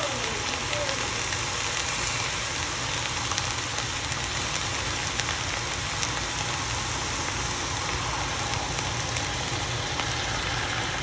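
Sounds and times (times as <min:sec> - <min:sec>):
meat and onions sizzling in pot: 0:00.0 - 0:11.0.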